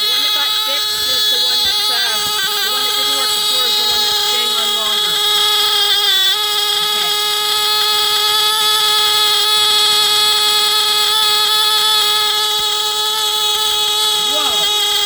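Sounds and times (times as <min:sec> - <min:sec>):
loud steady alarm tone: 0:00.0 - 0:15.0.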